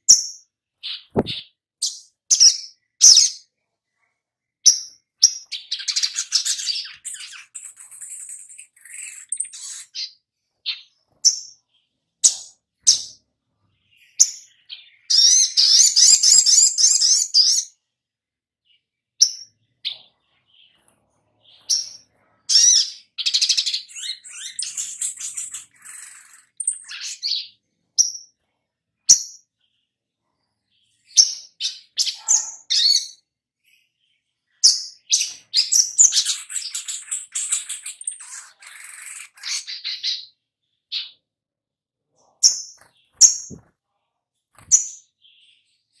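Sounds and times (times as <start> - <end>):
bird chirping: 0.0 - 17.9, 18.6 - 41.4, 42.1 - 46.0.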